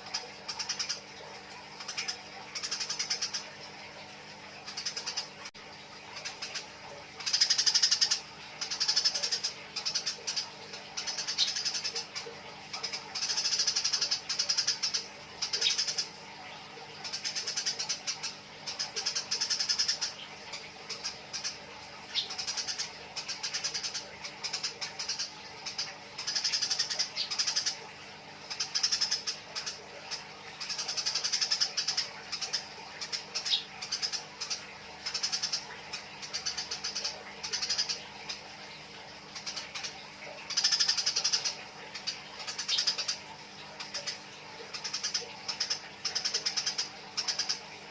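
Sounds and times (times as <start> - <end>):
sparrows chattering: 0.0 - 3.8, 6.1 - 47.9.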